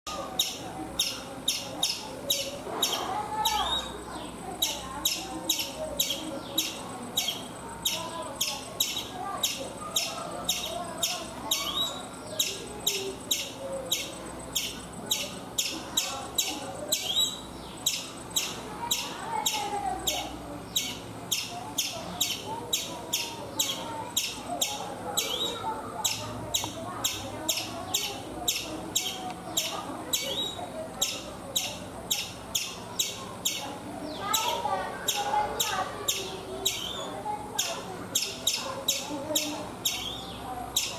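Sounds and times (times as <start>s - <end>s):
squirrel chirping: 0.1s - 4.0s, 4.6s - 40.9s.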